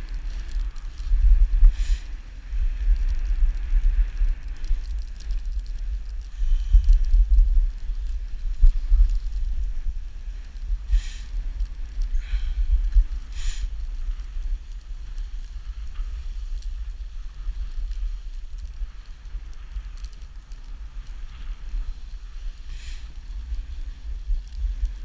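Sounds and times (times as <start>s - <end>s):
sled runners rumbling on snow: 0.0s - 25.0s.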